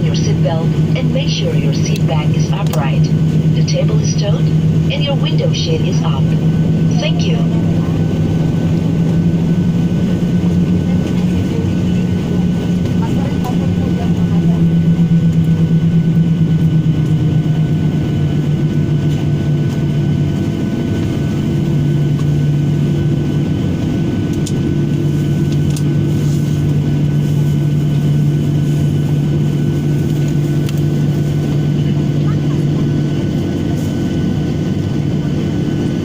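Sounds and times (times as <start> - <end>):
airliner engines humming in cabin: 0.0 - 36.0.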